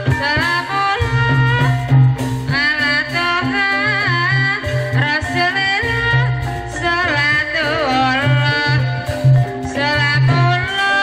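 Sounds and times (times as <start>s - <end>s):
gamelan music: 0.0s - 11.0s.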